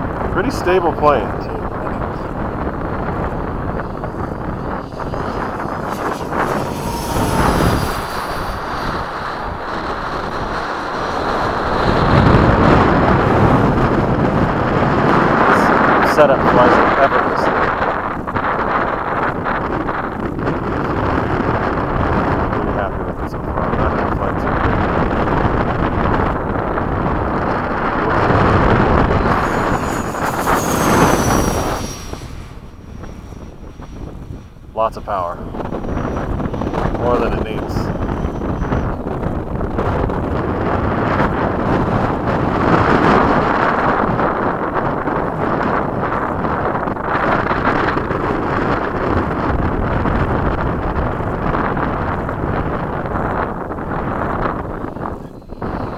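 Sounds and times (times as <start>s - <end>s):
model jet rushing with fan whine: 0.0s - 55.9s
wind buffeting microphone: 0.0s - 55.9s.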